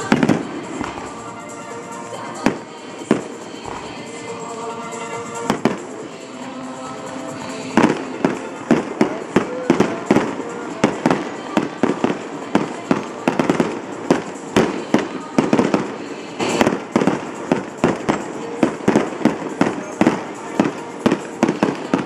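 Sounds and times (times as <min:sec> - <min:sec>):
fireworks bangs: 0:00.0 - 0:06.5, 0:07.3 - 0:22.0.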